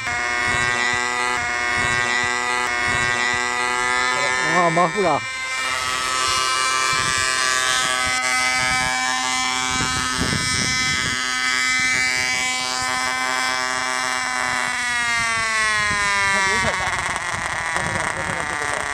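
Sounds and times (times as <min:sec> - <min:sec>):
helicopter rotor: 0:00.0 - 0:18.9
model helicopter engine buzzing: 0:00.0 - 0:18.9.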